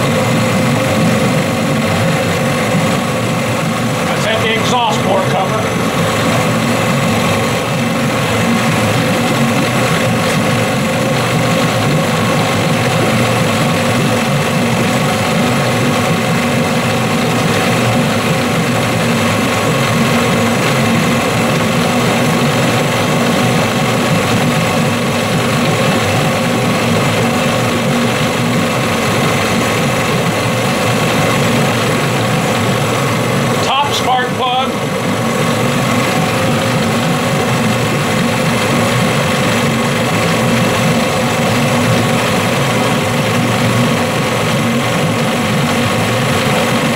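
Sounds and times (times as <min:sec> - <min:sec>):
outboard engine running: 0:00.0 - 0:46.9.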